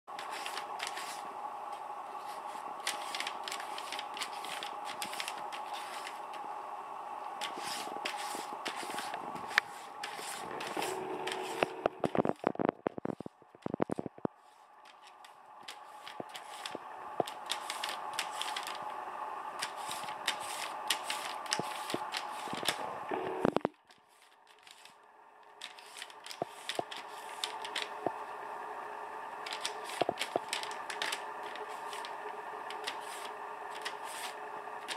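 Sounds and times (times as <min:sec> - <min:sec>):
paper crackling and scratching: 0:00.1 - 0:06.6, 0:07.2 - 0:28.2, 0:29.4 - 0:34.9
steady hum: 0:00.1 - 0:34.9.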